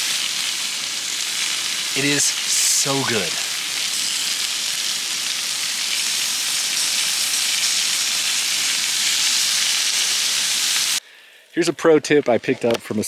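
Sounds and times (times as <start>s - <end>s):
meat sizzling: 0.0s - 11.0s.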